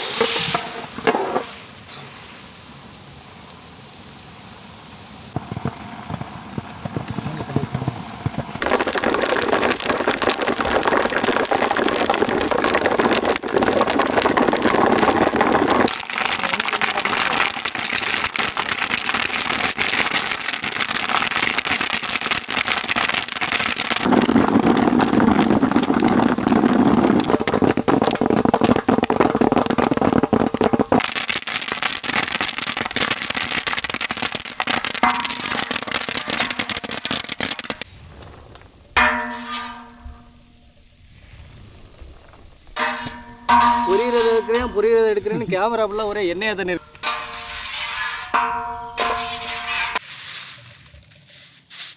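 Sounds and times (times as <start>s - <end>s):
popcorn popping in oil: 0.0s - 1.6s, 5.3s - 37.9s, 38.6s - 40.6s, 42.0s - 45.8s, 46.8s - 50.0s
oil sizzling: 0.0s - 7.0s, 8.0s - 50.6s.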